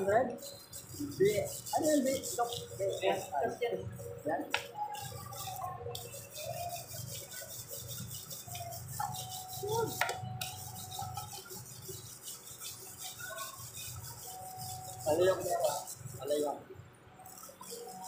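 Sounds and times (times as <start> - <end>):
brush scrubbing metal chain: 0.0 - 16.6, 17.2 - 18.0.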